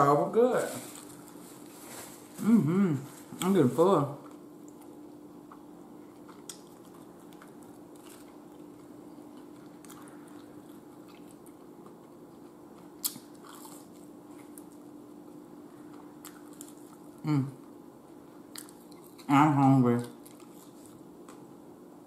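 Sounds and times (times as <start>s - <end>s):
steady low hum: 0.0s - 22.0s
chewing crispy food: 3.2s - 21.6s.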